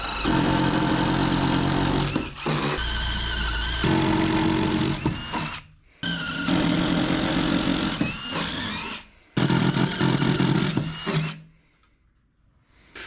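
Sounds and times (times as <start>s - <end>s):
power drill boring wood: 0.0s - 11.4s.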